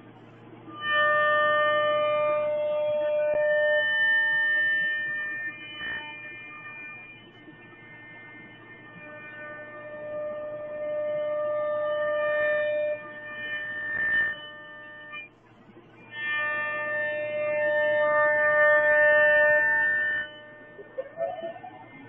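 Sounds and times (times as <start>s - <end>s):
router motors whining: 1.0s - 15.2s, 16.6s - 22.0s.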